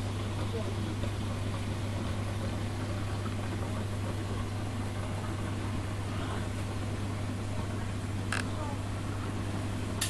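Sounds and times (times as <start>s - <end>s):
bubbling water: 0.0s - 10.0s
low electrical hum: 0.0s - 10.0s.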